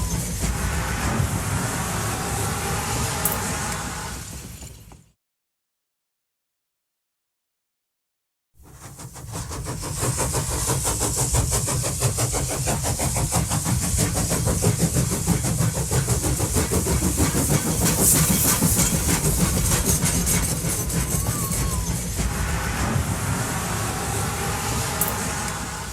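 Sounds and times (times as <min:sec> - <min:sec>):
locomotive running: 0:00.0 - 0:05.1, 0:08.6 - 0:25.9.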